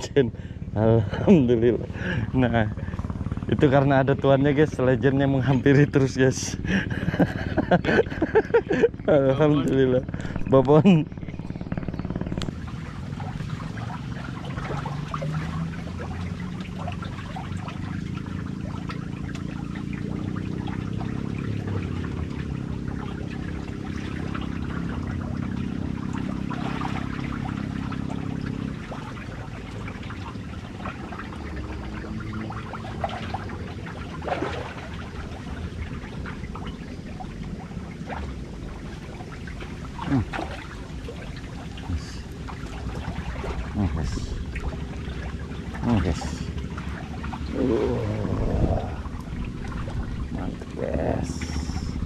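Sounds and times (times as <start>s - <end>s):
low motor hum: 0.0s - 52.0s
water lapping against jetty: 0.0s - 52.0s
small splashes: 1.8s - 52.0s.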